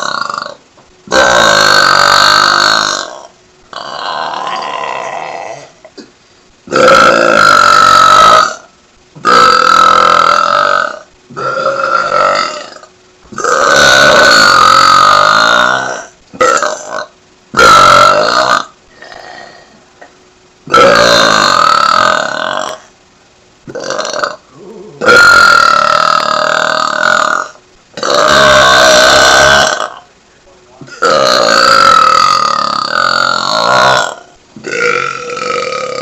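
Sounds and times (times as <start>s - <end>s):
woman belching loudly: 0.0s - 6.1s, 6.7s - 19.6s, 20.7s - 22.8s, 23.7s - 30.1s, 30.9s - 36.0s.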